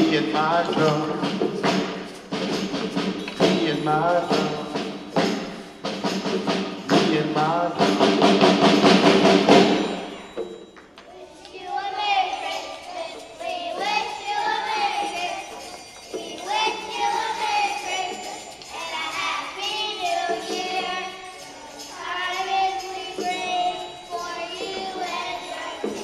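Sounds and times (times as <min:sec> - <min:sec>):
children's choir singing: 0:00.0 - 0:26.0
children's choir singing a christmas song: 0:00.0 - 0:26.0.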